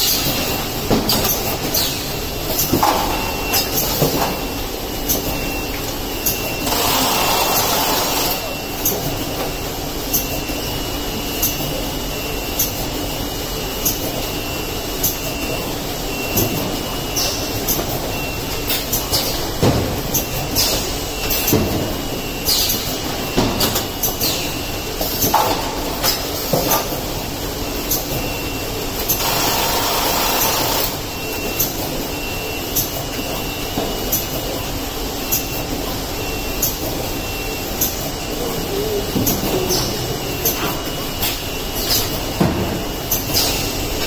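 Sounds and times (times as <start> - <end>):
conveyors and robot clattering: 0.0 - 44.0.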